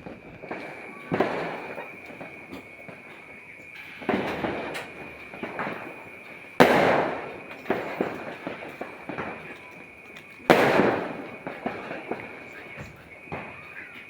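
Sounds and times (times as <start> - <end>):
firework pops and cracks: 0.0 - 14.0
fireworks bangs with rumble: 0.0 - 14.0.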